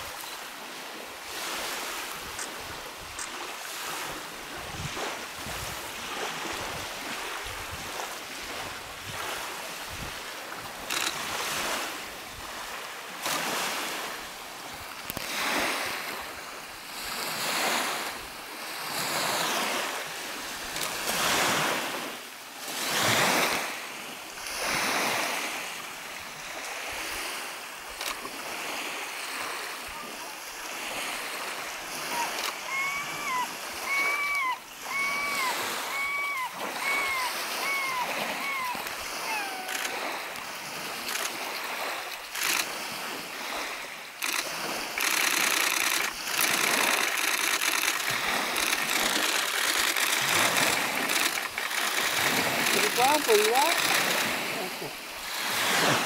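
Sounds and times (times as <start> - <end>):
waves washing onto gravel shore: 0.0 - 35.9, 36.5 - 56.0
wind: 0.0 - 56.0.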